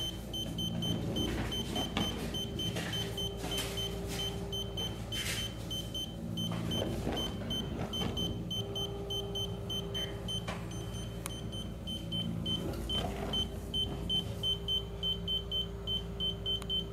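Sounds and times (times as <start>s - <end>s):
dishwasher beeping: 0.0s - 16.9s
motor humming: 0.0s - 16.9s.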